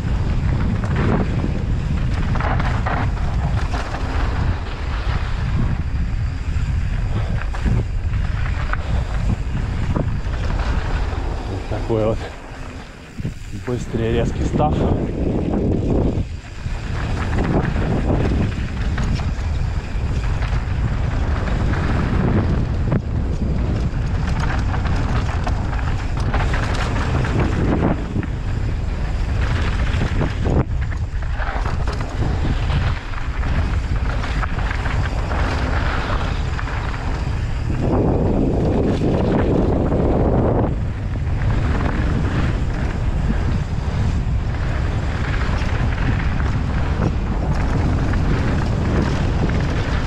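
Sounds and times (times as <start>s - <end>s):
bike tyres rolling on dirt: 0.0s - 50.0s
wind rushing over microphone: 0.0s - 50.0s.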